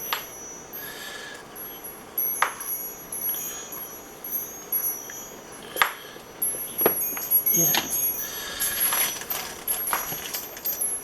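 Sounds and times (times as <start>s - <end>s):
wind chimes ringing: 0.0s - 11.0s.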